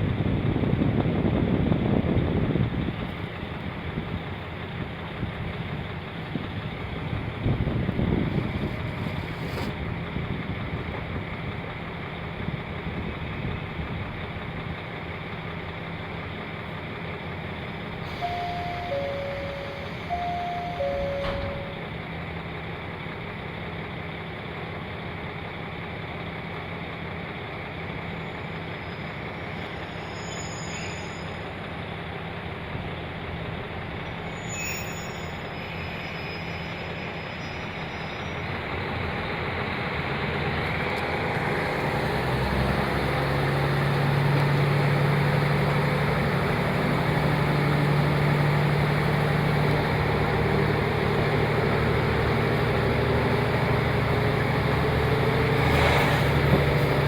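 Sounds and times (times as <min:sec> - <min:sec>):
diesel railcar engine drone: 0:00.0 - 0:57.0.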